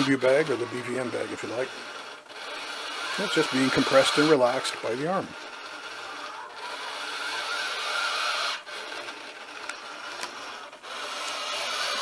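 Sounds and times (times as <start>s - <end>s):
servo whirring: 0.0s - 12.0s.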